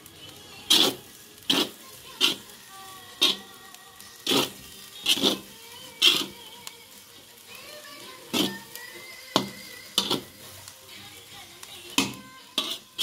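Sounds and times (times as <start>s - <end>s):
spatula scraping rice in pan: 0.7s - 7.4s, 8.1s - 10.8s, 11.9s - 13.0s.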